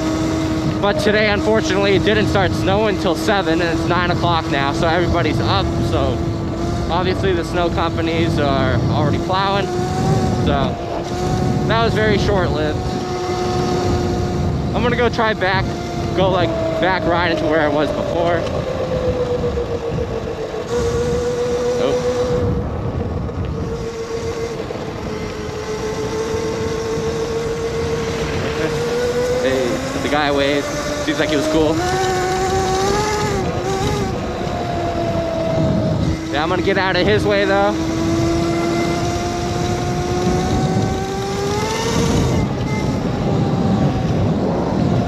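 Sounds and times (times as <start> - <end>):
electric motor whining: 0.0 - 45.0
wind noise on microphone: 0.0 - 45.0.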